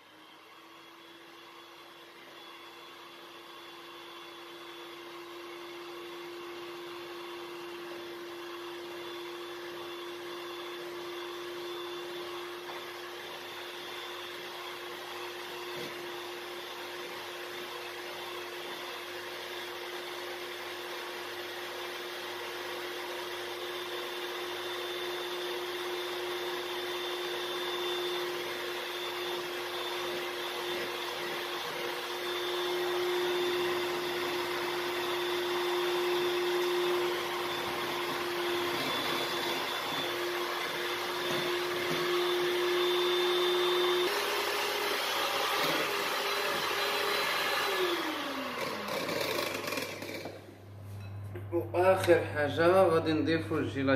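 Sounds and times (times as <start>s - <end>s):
electric hand mixer whirring: 0.0s - 50.7s.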